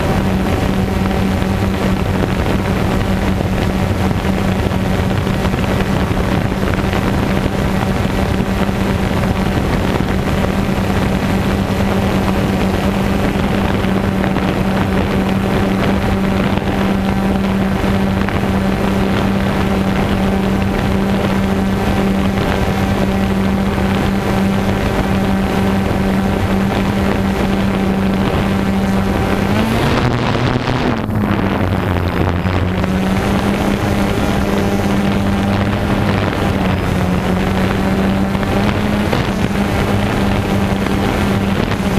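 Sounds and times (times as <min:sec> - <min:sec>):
drone propellers humming: 0:00.0 - 0:41.9
wind noise on microphone: 0:00.0 - 0:41.9.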